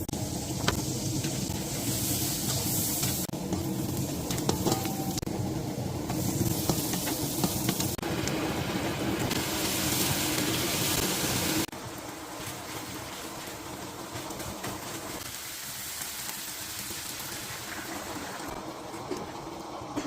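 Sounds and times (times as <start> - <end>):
food sizzling in a pot: 0.0 - 19.4.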